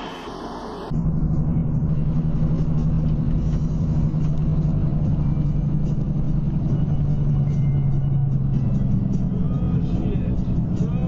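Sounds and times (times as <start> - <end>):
vehicle cruising at highway speed: 0.0 - 11.0.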